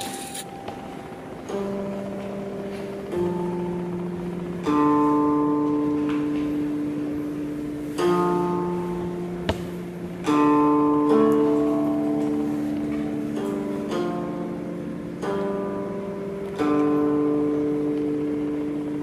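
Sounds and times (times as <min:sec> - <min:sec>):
plucked zither notes: 0:00.0 - 0:19.0.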